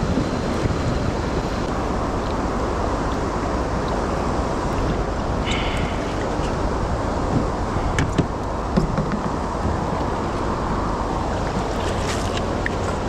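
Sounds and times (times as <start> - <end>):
fast-flowing river water: 0.0 - 13.0
wind buffeting microphone: 0.0 - 13.0.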